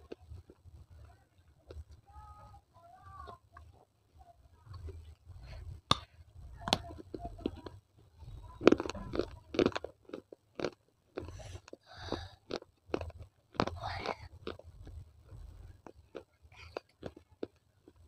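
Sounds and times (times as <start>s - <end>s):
chewing baked clay: 0.0s - 2.1s, 3.2s - 18.0s.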